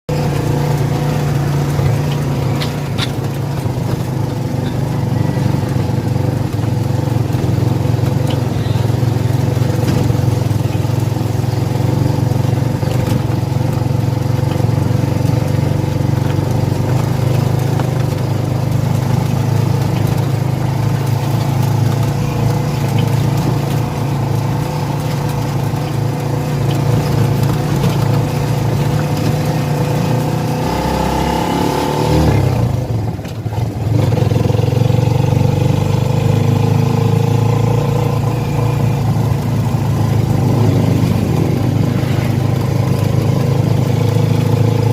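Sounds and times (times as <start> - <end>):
vehicle engine running steadily: 0.0 - 44.9.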